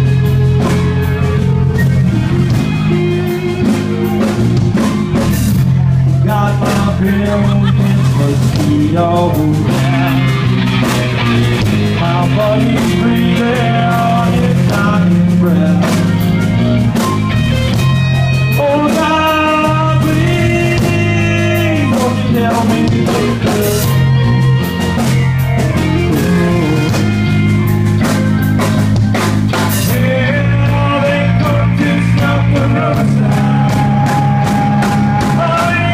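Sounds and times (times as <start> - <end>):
bass: 0.0 - 35.9
drum kit: 0.0 - 35.9
electric guitar: 0.0 - 35.9
person singing: 2.2 - 16.8, 18.2 - 27.4, 29.7 - 35.9.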